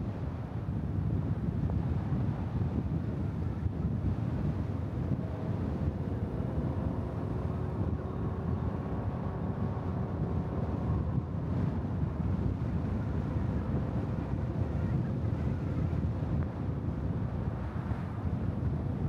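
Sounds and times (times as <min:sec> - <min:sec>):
road and tyre rumble: 0:00.0 - 0:19.0
wind buffeting microphone: 0:00.0 - 0:19.0.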